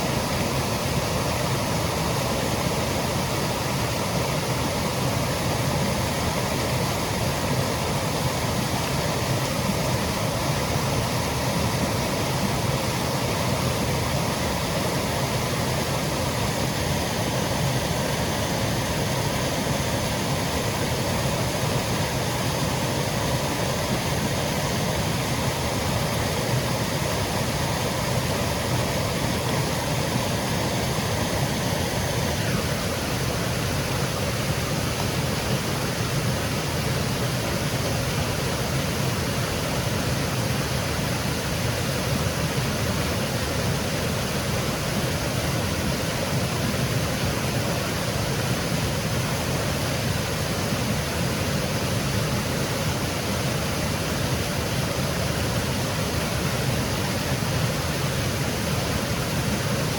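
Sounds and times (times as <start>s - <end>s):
faint high hum: 0.0s - 59.9s
waterfall rushing: 0.0s - 59.9s.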